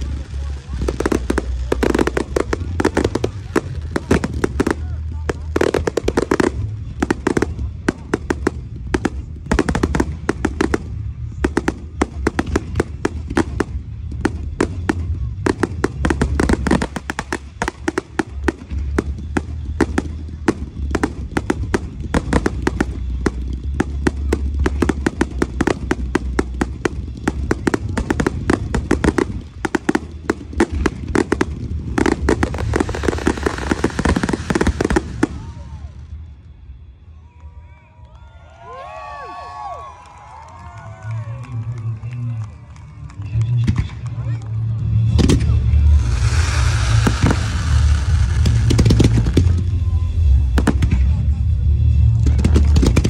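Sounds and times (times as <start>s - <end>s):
fireworks bursting and crackling: 0.0s - 36.8s, 39.0s - 53.0s
low rumble: 0.0s - 37.2s, 40.6s - 53.0s.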